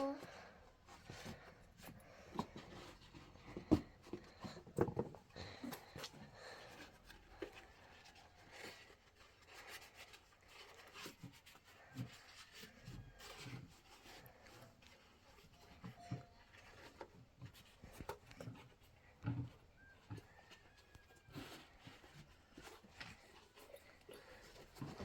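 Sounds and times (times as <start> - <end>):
objects being handled: 0.0 - 25.0.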